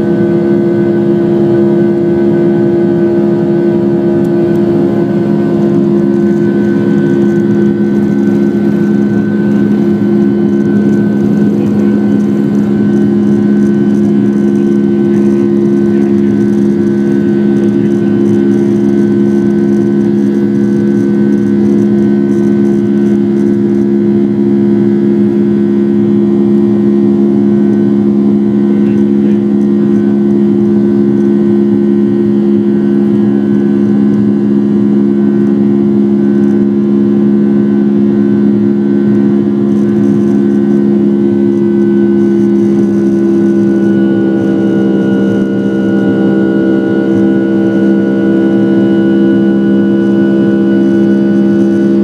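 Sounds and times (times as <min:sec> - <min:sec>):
jet engines droning in cabin: 0:00.0 - 0:52.0.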